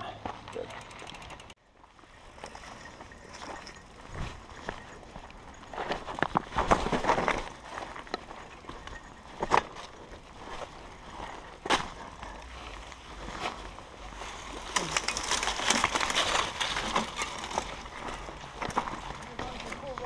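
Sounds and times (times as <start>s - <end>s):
bike rattling: 0.0s - 20.0s
bike tyres crunching gravel: 0.1s - 20.0s.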